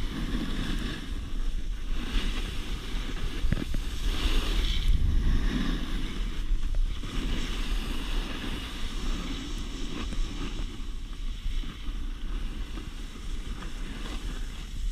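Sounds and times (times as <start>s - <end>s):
snowboards sliding on snow: 0.0s - 14.9s
wind buffeting microphone: 0.0s - 14.9s.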